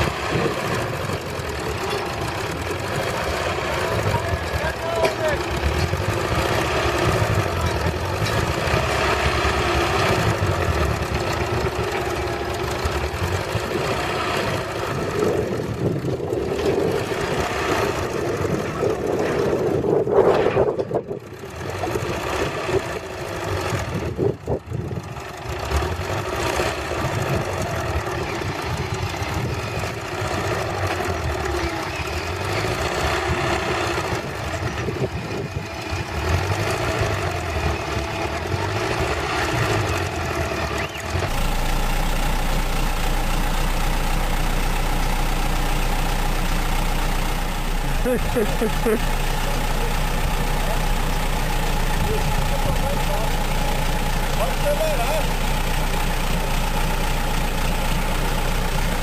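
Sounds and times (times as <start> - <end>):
backhoe diesel engine under load: 0.0 - 59.0.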